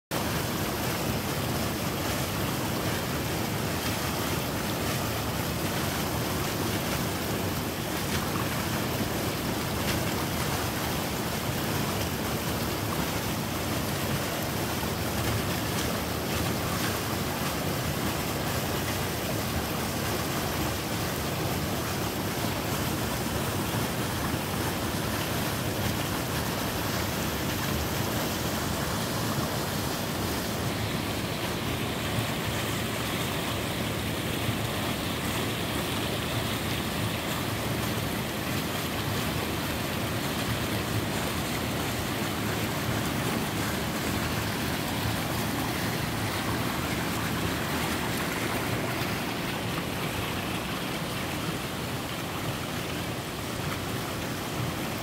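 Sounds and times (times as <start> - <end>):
waterfall rushing over rock: 0.1 - 55.0.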